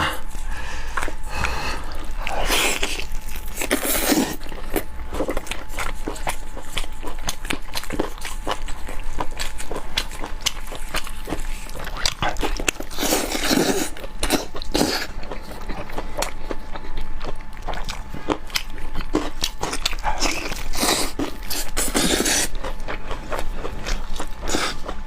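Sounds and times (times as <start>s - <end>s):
person chewing meat: 0.0s - 25.0s.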